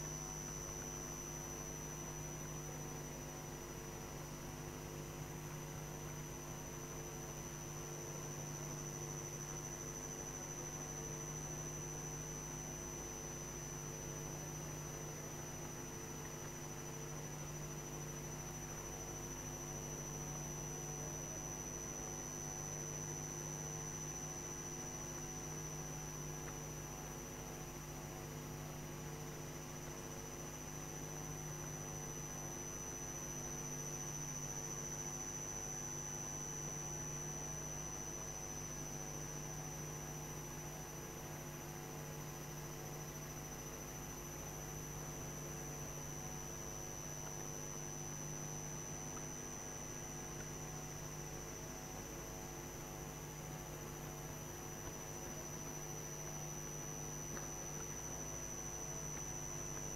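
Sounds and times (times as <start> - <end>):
electrical mains hum: 0.0 - 59.9
thin high-pitched whine: 0.0 - 59.9.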